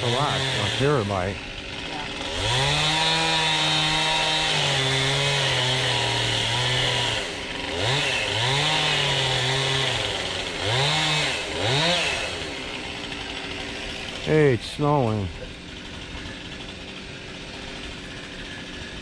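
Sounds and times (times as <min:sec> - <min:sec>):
chainsaw revving while cutting: 0:00.0 - 0:19.0.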